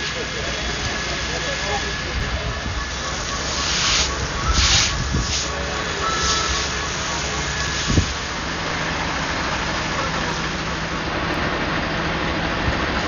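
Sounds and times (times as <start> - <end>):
constant hiss: 0.0 - 11.2
engine idling: 0.0 - 13.0.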